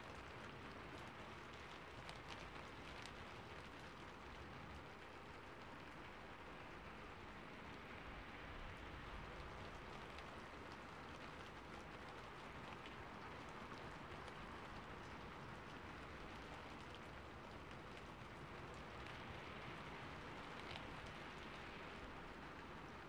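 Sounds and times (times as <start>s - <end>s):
rain falling on a rooftop: 0.0s - 23.0s.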